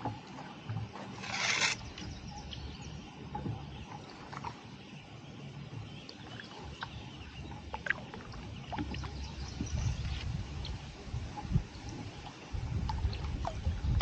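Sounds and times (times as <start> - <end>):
paddle dipping and dripping: 0.0 - 14.0.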